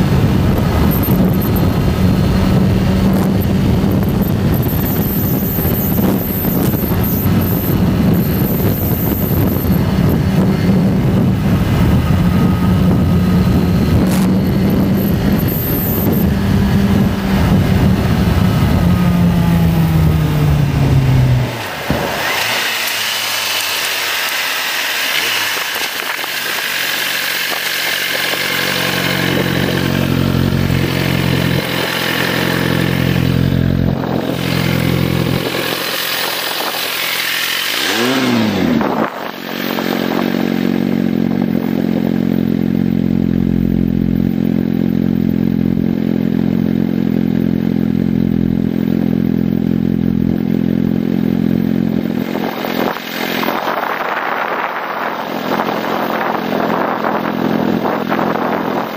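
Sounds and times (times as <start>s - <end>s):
wind rush: 0.0s - 42.2s, 52.1s - 58.9s
motorcycle engine: 0.0s - 58.9s.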